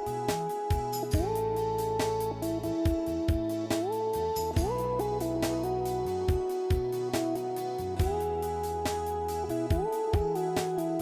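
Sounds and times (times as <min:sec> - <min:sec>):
quick steady beat: 0:00.0 - 0:11.0.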